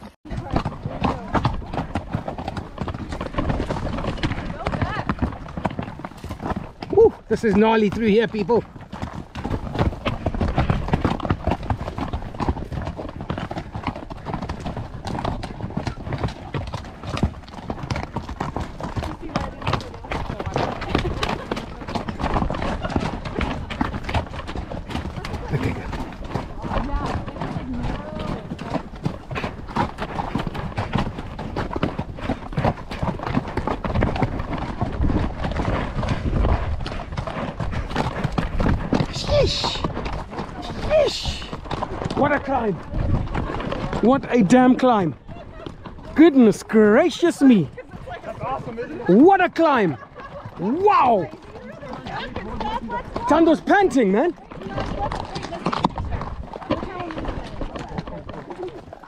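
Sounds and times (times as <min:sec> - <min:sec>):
hooves clattering on hard ground: 0:00.0 - 0:59.0.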